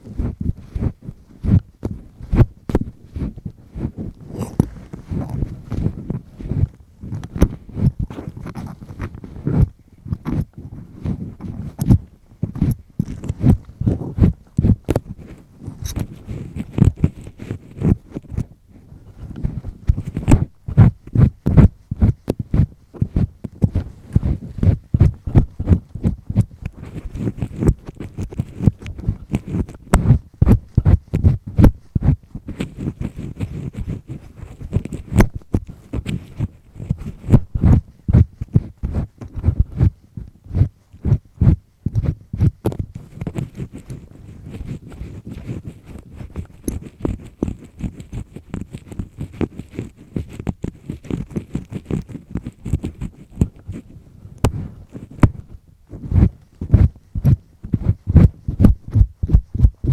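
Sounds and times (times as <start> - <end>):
ear pick scraping in ear: 0.0 - 59.9.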